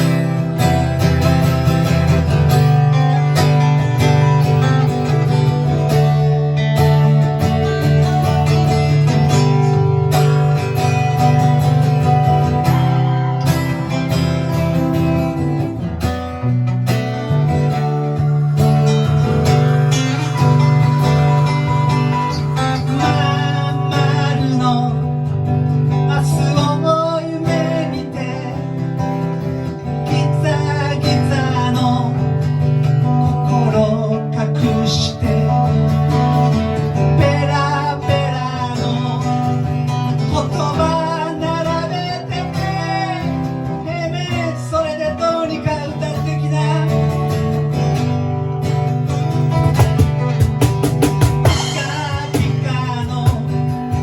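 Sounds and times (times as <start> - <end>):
guitar-led band music: 0.0 - 54.0.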